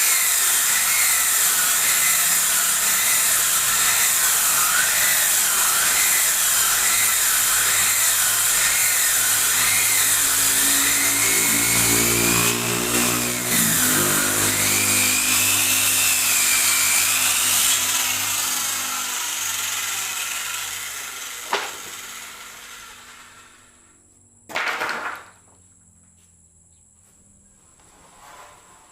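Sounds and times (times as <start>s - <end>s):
circular saw cutting wood: 0.0s - 23.9s.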